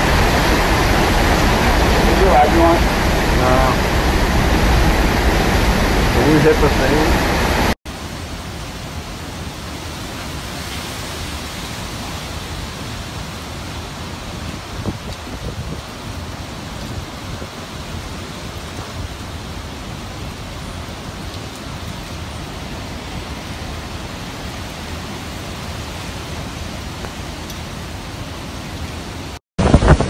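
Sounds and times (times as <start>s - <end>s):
hurricane wind and rain: 0.0s - 30.0s.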